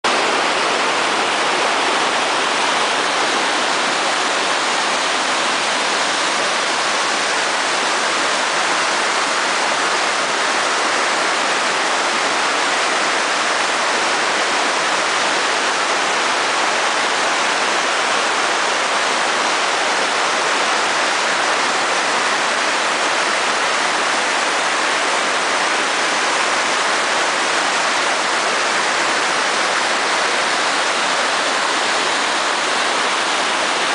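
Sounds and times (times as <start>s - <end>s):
large waterfall rushing: 0.0s - 33.9s.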